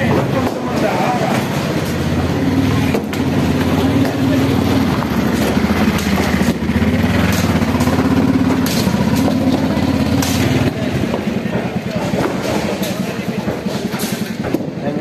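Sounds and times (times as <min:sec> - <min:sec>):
rickshaw engine idling: 0:00.0 - 0:15.0.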